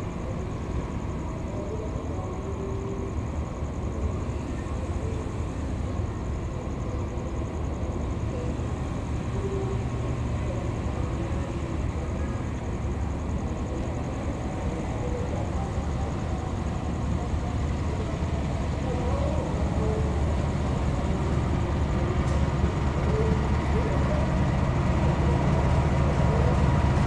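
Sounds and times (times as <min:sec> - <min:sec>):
diesel locomotive engine rumbling: 0:00.0 - 0:27.0.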